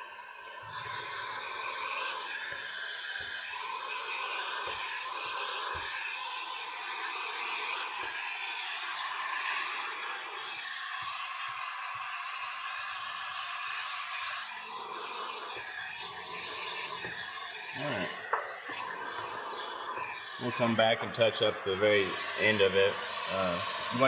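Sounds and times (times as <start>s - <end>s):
heat gun blowing: 0.0s - 24.0s.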